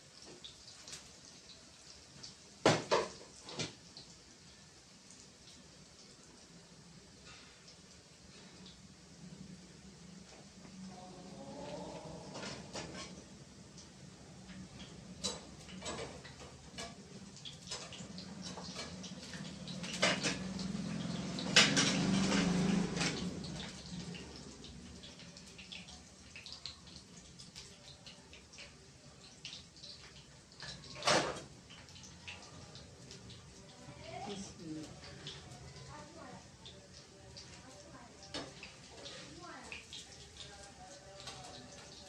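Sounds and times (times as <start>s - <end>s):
dumplings sizzling in hot oil: 0.0s - 42.0s.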